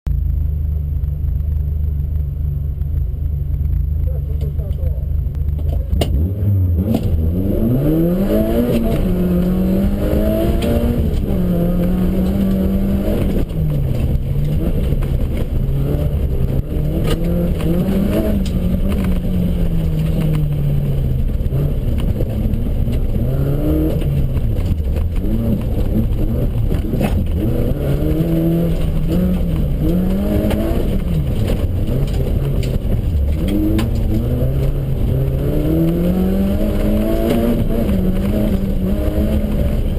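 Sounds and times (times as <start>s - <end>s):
car engine revving: 0.1s - 39.9s.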